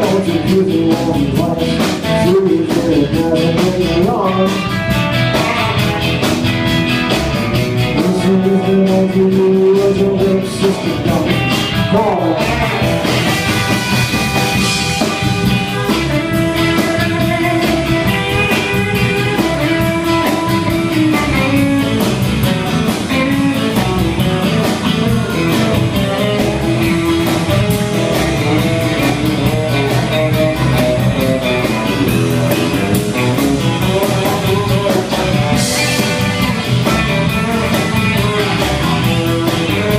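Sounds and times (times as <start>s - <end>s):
live rock band playing: 0.0s - 39.9s
sliding guitar notes: 0.0s - 39.9s.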